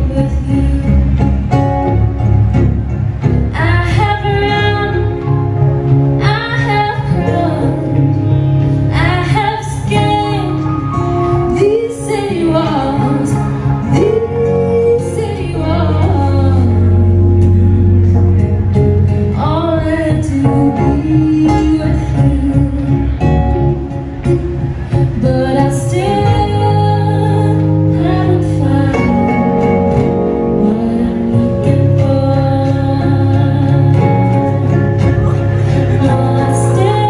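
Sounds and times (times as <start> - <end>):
woman singing: 0.0 - 1.5, 3.5 - 17.6, 18.8 - 23.2, 25.0 - 34.7, 35.7 - 37.0
acoustic guitar: 0.0 - 37.0.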